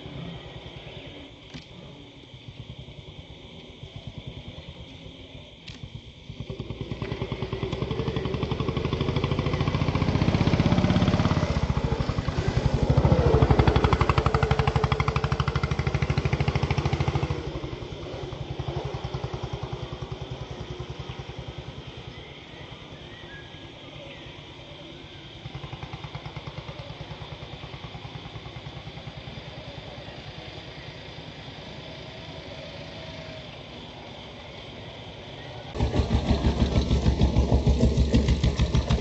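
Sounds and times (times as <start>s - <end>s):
vehicle engine passing by: 6.3s - 23.8s, 24.6s - 39.0s.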